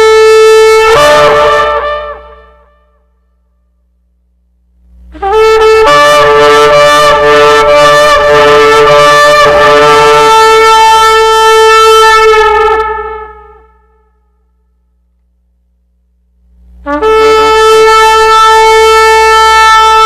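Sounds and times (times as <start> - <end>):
long brassy horn call: 0.0 - 3.8, 5.0 - 14.8, 16.8 - 20.0
low steady hum: 0.0 - 20.0.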